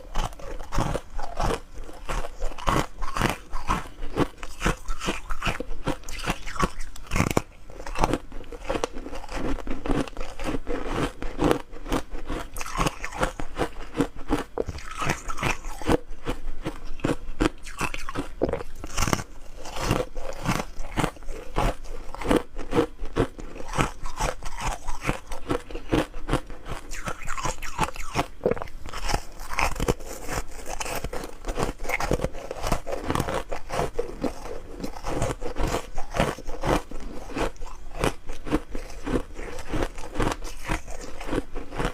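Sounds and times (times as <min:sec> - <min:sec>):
person chewing ice: 0:00.0 - 0:41.9.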